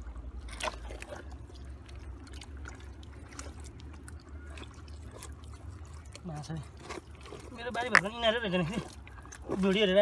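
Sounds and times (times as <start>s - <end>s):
shallow water splashing: 0.0s - 10.0s.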